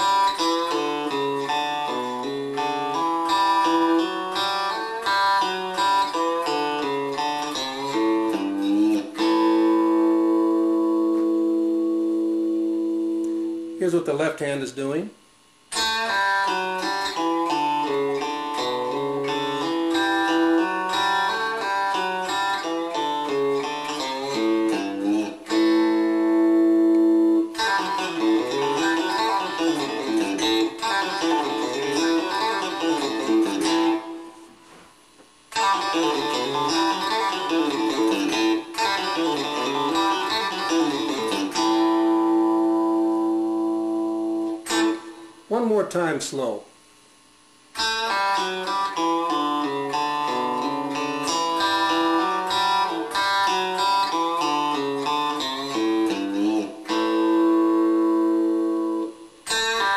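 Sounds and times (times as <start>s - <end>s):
electric guitar picked notes: 0.0s - 14.0s, 15.7s - 34.7s, 35.5s - 45.5s, 47.7s - 59.9s.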